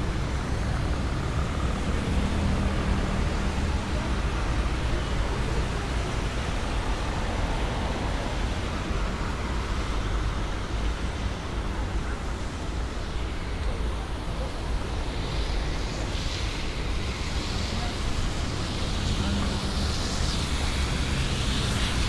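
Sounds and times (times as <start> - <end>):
light rain: 0.0 - 22.0
traffic on wet streets: 0.0 - 22.0.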